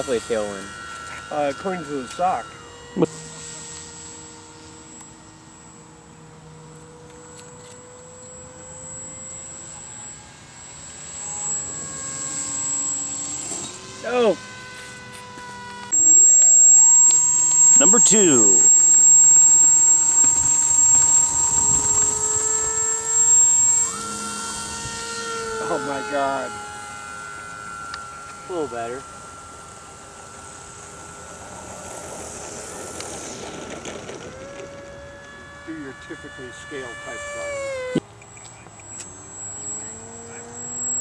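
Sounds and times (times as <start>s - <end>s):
distant model airplane droning: 0.0s - 41.0s.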